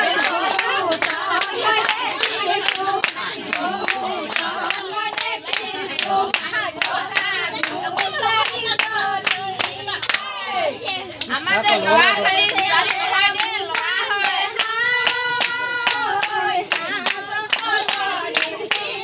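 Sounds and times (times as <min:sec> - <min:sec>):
group of people singing: 0:00.0 - 0:19.0
hands clapping in rhythm: 0:00.0 - 0:19.0.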